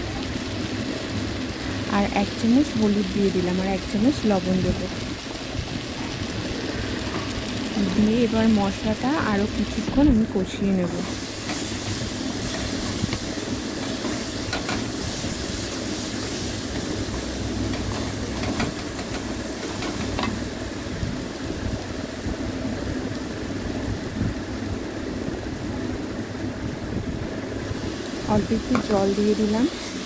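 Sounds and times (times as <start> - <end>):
spice paste sizzling in oil: 0.0 - 30.0.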